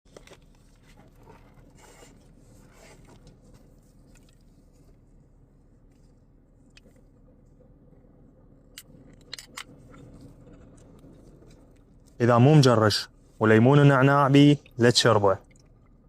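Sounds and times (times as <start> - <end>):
faint scraping and rustling: 0.1 - 15.4
steady low hum: 0.1 - 16.0.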